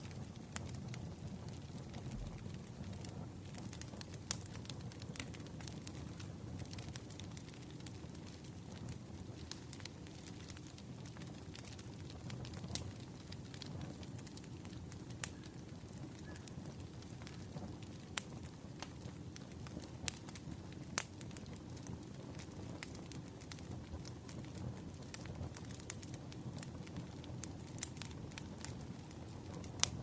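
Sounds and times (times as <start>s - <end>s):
fire crackles and pops: 0.0s - 30.0s
low rush of burning fire: 0.0s - 30.0s.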